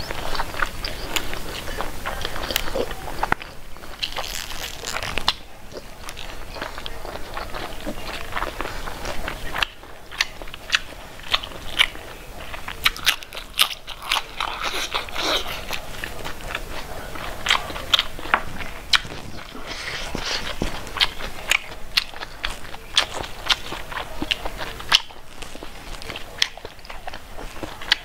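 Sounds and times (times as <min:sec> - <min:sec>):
person chewing with crunches: 0:00.0 - 0:28.0.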